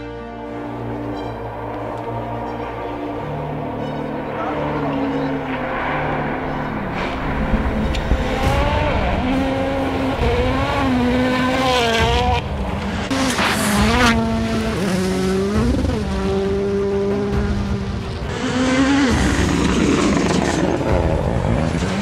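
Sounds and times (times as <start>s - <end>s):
rally car engines at full throttle: 0.0s - 22.0s.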